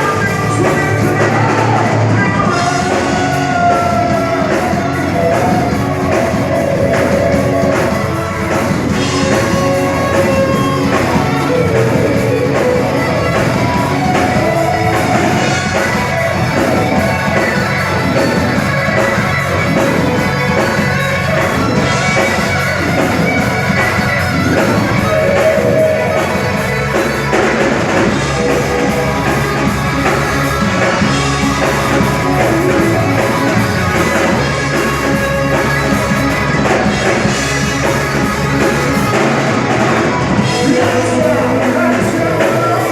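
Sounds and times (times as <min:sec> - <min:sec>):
drum kit: 0:00.0 - 0:42.9
electric guitar: 0:00.0 - 0:42.9
rock band playing loudly: 0:00.0 - 0:42.9.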